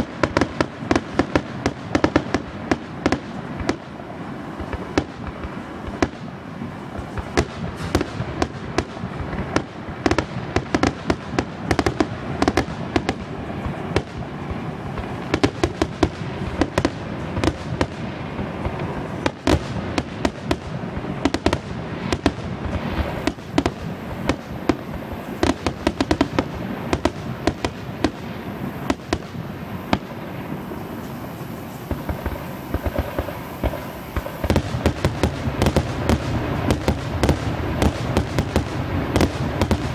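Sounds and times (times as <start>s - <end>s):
fireworks bangs and pops: 0.0s - 39.9s.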